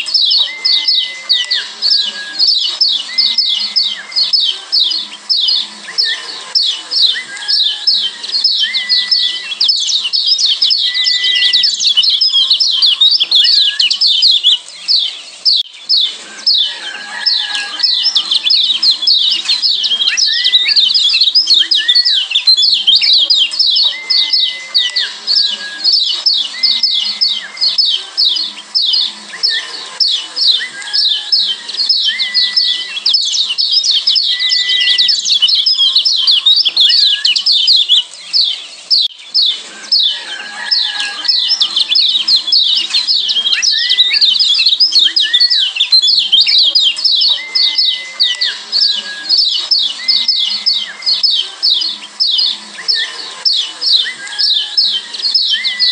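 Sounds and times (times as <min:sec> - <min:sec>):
bird high-pitched chirps: 0:00.0 - 0:55.9.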